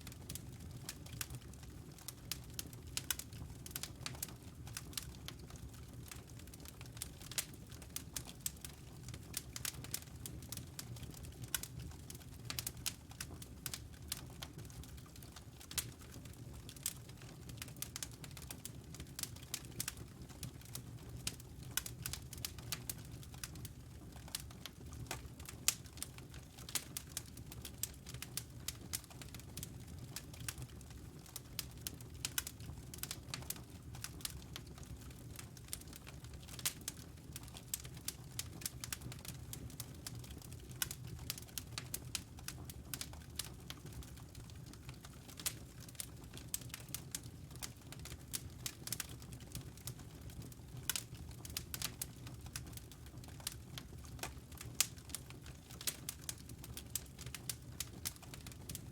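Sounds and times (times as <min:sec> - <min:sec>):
logs crackling and popping: 0:00.0 - 0:58.9
low rumble of flame: 0:00.0 - 0:58.9.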